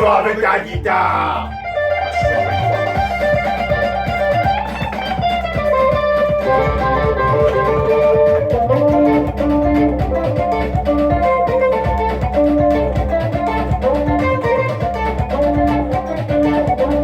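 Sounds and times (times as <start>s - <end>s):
bass: 0.0s - 17.0s
drum beat: 0.0s - 17.0s
plucked guitar lead line: 0.0s - 17.0s.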